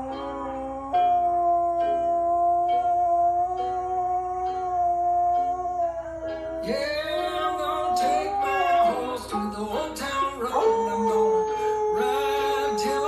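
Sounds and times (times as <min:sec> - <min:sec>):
dog howling: 0:00.0 - 0:13.0
song with singing and guitar: 0:00.0 - 0:13.0.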